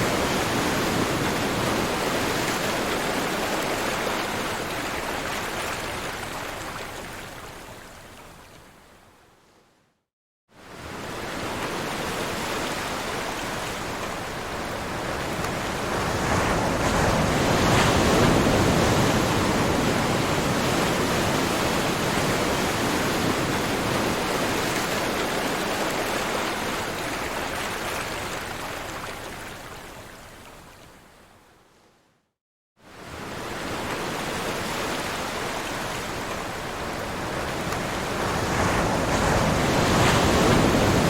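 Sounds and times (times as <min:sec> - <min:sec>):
ocean waves washing: 0:00.0 - 0:07.5, 0:10.6 - 0:29.8, 0:32.9 - 0:41.0.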